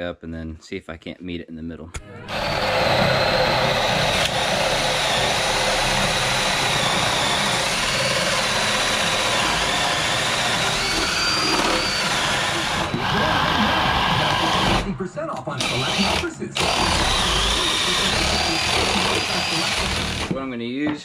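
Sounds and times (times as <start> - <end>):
electric drill whining: 2.3 - 14.9, 15.6 - 20.4.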